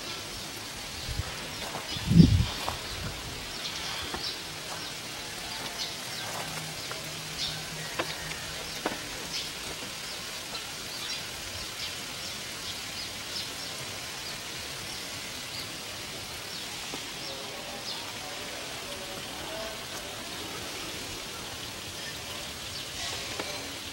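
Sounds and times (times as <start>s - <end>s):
water spraying onto grass: 0.0s - 23.9s.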